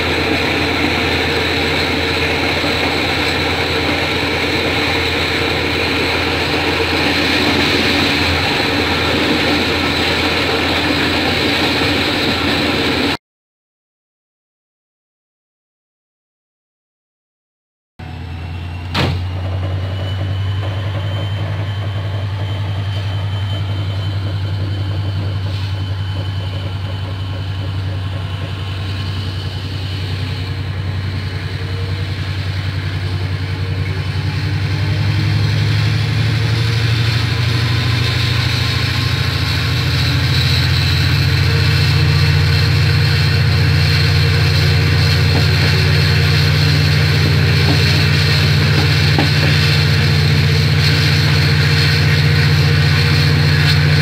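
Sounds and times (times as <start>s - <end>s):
diesel train engine: 0.0s - 13.2s, 18.0s - 54.0s.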